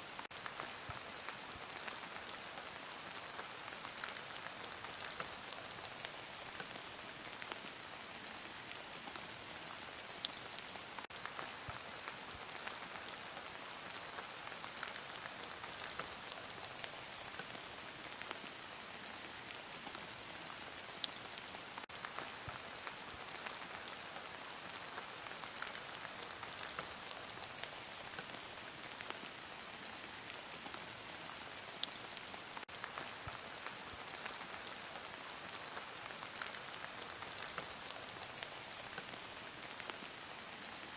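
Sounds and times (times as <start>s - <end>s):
raindrops ticking on a surface: 0.1s - 40.9s.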